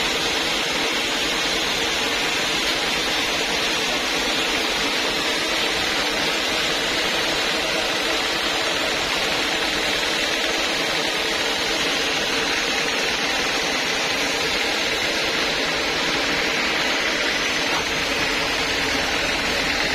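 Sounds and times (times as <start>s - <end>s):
band sawmill whining: 0.0s - 19.9s.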